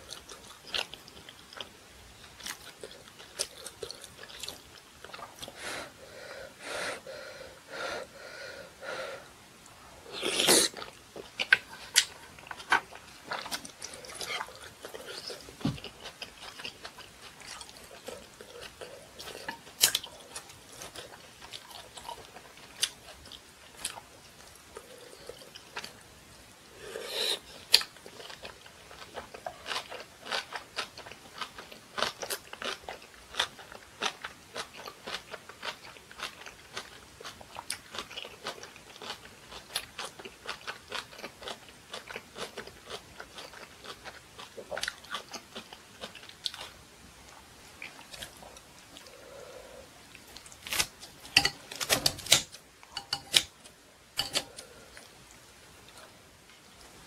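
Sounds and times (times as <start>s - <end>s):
crunchy chewing: 0.0s - 5.6s, 10.1s - 26.0s, 26.8s - 53.6s.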